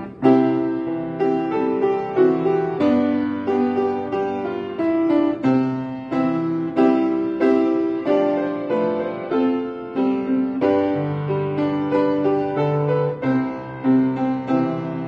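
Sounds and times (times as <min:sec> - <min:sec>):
piano piece: 0:00.0 - 0:15.0.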